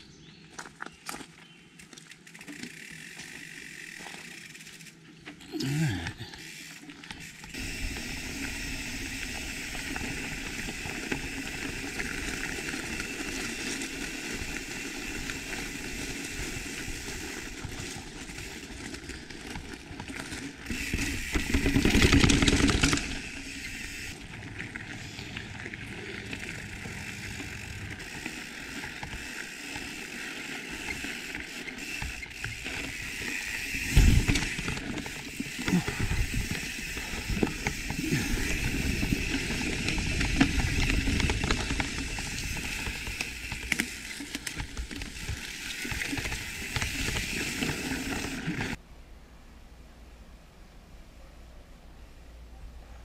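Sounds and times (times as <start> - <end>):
bike rattling: 0.0 - 5.4, 6.3 - 48.8
bike tyres rolling on dirt: 0.0 - 48.8.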